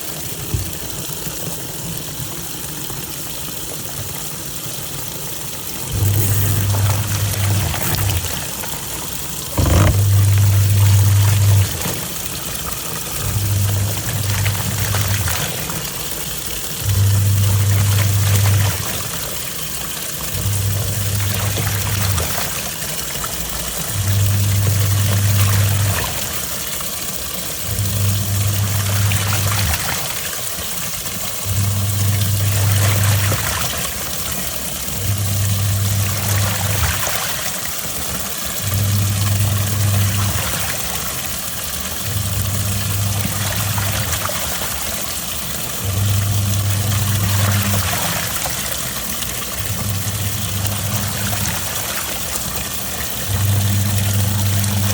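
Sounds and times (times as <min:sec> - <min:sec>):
washing machine motor humming: 0:05.6 - 0:54.9.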